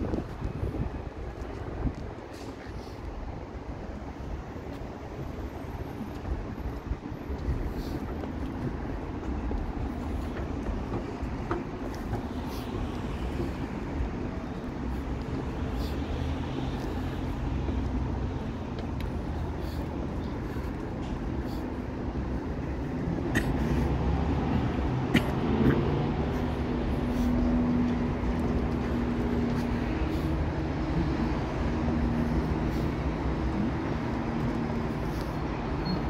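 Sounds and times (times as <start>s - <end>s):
road traffic rumble: 0.0s - 36.0s
vehicle engine humming: 0.0s - 36.0s.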